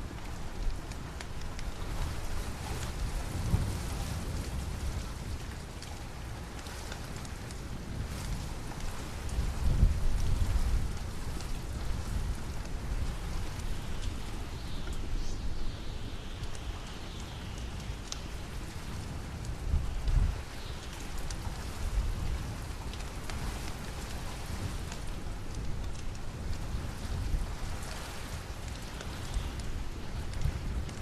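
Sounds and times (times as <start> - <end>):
steady rain falling: 0.0 - 31.0
wood fire crackling: 0.0 - 31.0.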